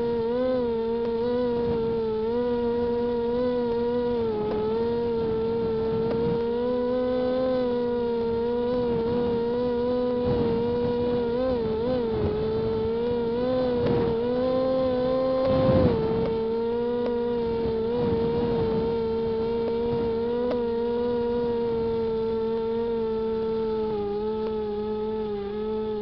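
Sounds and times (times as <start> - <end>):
model aircraft motors whining: 0.0 - 26.0.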